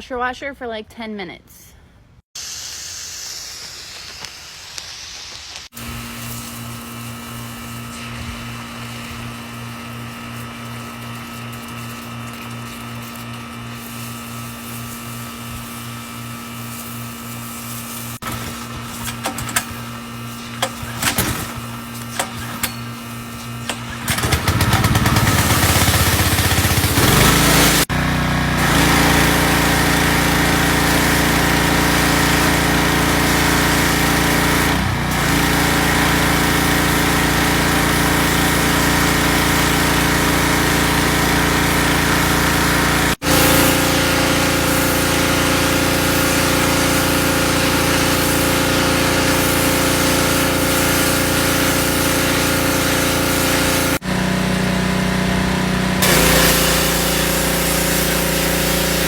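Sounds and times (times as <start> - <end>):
small engine running: 8.2 - 59.0.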